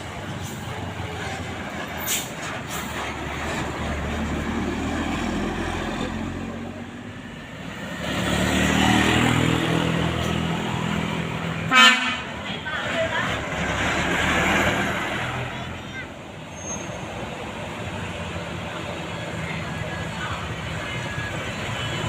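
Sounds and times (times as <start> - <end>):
heavy vehicles passing: 0.0 - 22.0
tyre and road noise: 0.0 - 22.0.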